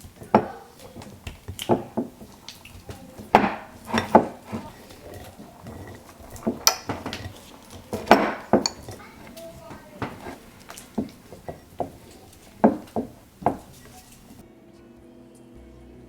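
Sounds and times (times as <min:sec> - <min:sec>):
dishes and cutlery clattering: 0:00.0 - 0:14.4.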